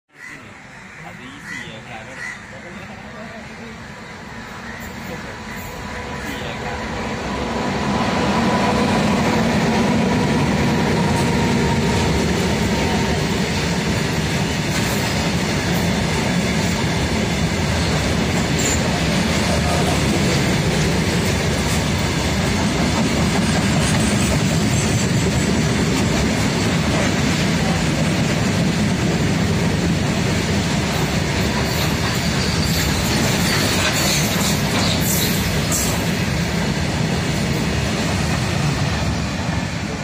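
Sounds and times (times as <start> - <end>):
freight train rumbling on rails: 0.2 - 40.0.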